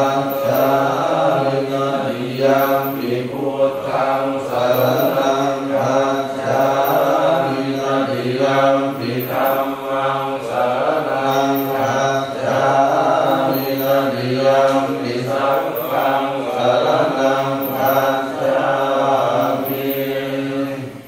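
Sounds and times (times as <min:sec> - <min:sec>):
low voices chanting prayers: 0:00.0 - 0:21.0.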